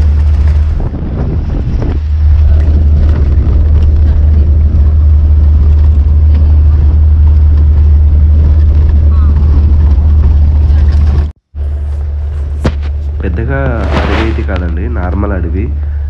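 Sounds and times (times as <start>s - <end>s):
jeep engine rumble: 0.0s - 16.0s
rushing road noise: 0.0s - 16.0s.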